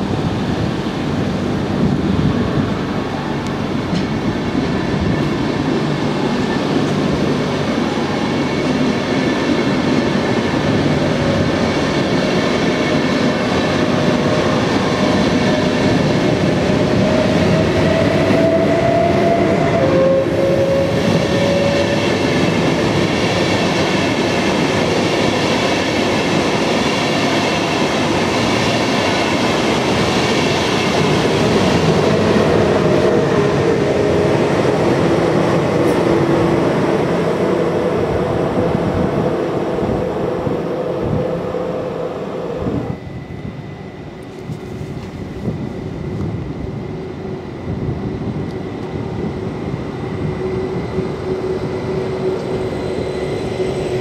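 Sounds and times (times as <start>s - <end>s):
electric locomotive whine: 0.0s - 54.0s
train electric hum: 0.0s - 54.0s
train wheels rolling on rails: 0.0s - 54.0s.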